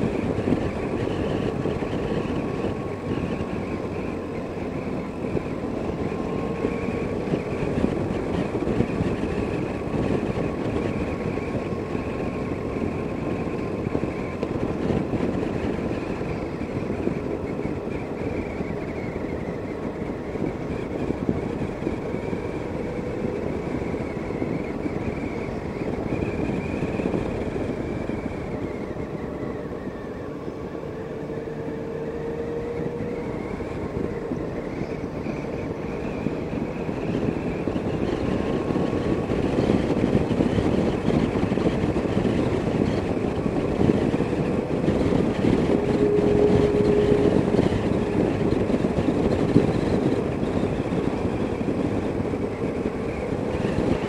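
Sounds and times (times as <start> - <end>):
motorcycle engine: 0.0 - 54.0
wind rush: 0.0 - 54.0.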